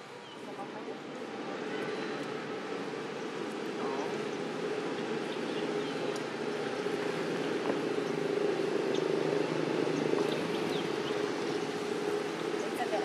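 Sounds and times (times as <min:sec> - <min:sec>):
steady engine hum: 0:00.0 - 0:13.0.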